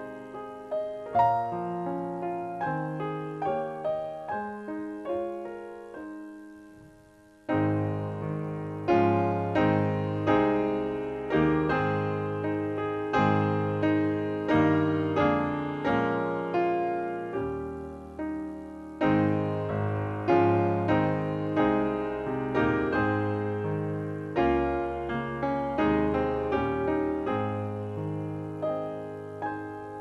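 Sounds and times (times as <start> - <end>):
piano notes and chords: 0.0 - 30.0.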